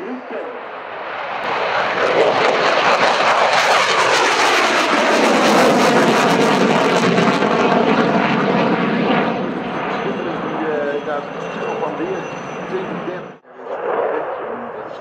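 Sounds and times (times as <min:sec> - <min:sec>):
jet engine roar with crackling: 0:00.0 - 0:15.0.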